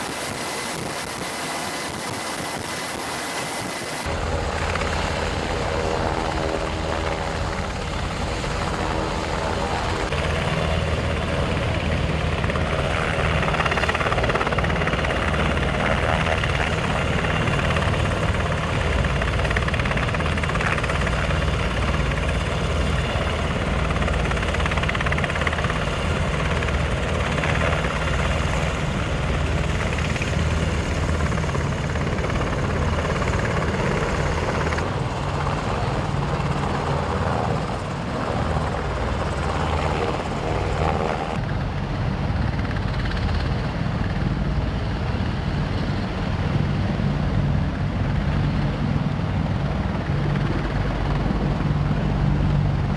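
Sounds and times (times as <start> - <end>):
helicopter engines and rotors rumbling: 0.0 - 52.9.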